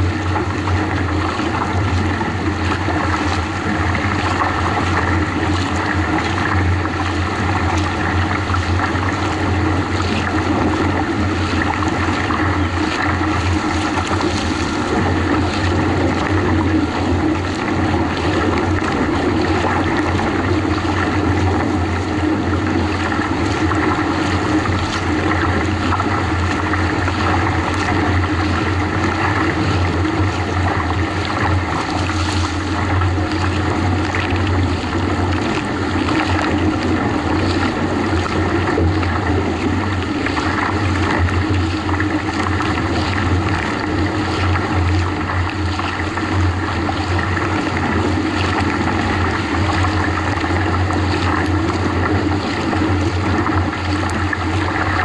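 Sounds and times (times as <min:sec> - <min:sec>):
motorboat engine hum: 0:00.0 - 0:55.0
water splashing along kayak hull: 0:00.0 - 0:55.0.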